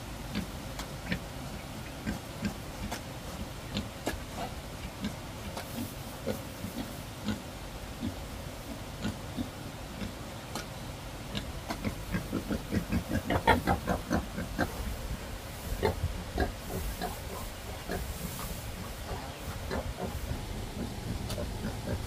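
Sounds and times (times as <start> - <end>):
pigs grunting: 1.9 - 10.2, 11.2 - 22.0.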